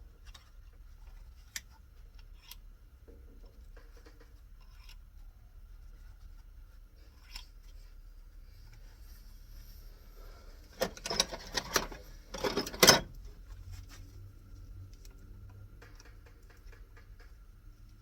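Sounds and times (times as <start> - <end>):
faint handling noises: 0.0 - 18.0
faint low hum: 0.0 - 18.0.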